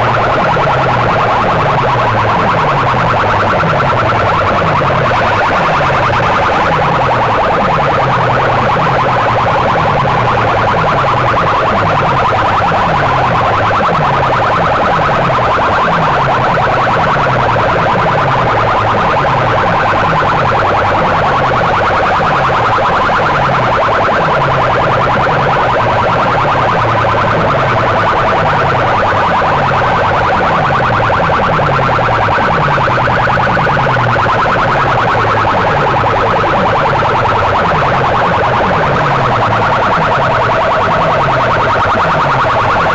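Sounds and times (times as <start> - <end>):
distorted electronic siren tone: 0.0 - 42.9
low descending electronic pattern: 0.0 - 42.9.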